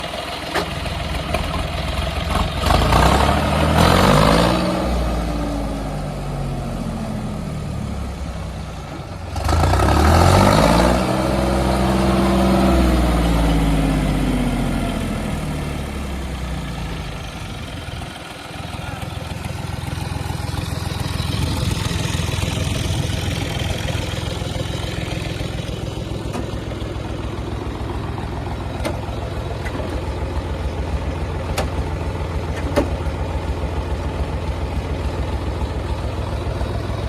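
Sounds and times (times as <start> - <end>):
tractor diesel engine idling: 0.0 - 37.0
tractor engine revving: 0.0 - 37.0.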